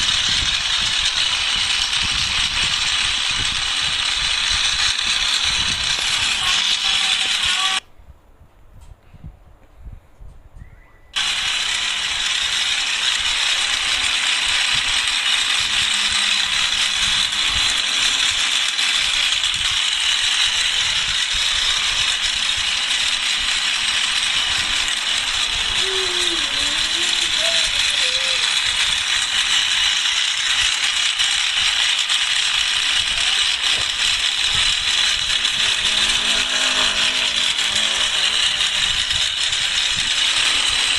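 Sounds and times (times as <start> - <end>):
toy train motor rattling: 0.0 - 7.8, 11.2 - 40.9.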